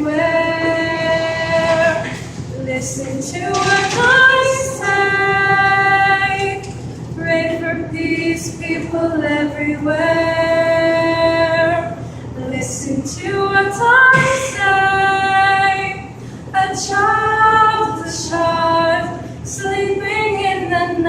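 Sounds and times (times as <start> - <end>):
female choir singing a cappella: 0.0 - 6.6, 7.2 - 21.0.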